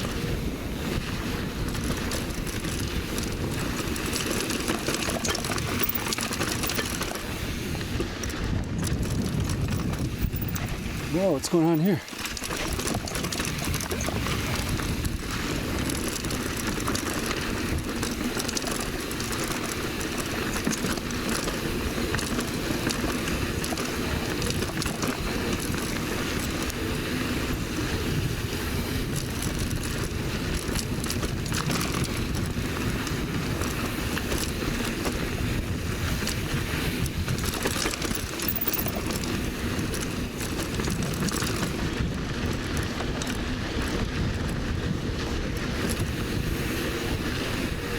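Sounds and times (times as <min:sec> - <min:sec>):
bike tyres on dirt trail: 0:00.0 - 0:47.9
rattle of knocks over bumps: 0:01.6 - 0:07.3, 0:08.0 - 0:10.8, 0:12.2 - 0:26.8, 0:29.0 - 0:44.6.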